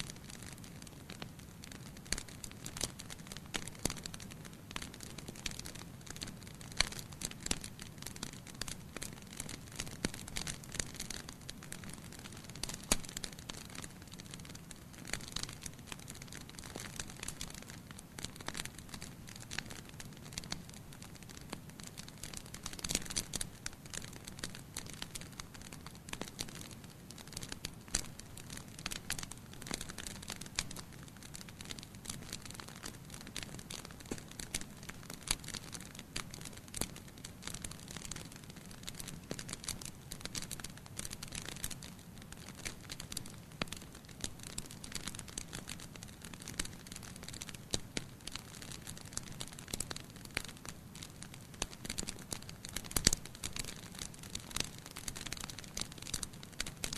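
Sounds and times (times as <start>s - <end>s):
low rumble of burning: 0.0s - 56.9s
wood fire crackling and popping: 0.0s - 56.9s.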